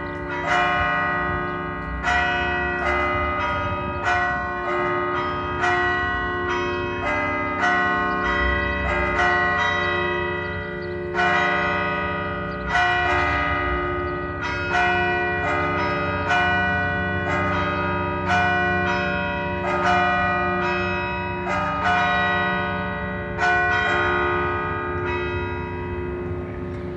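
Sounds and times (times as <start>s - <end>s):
church bells ringing: 0.0s - 26.9s.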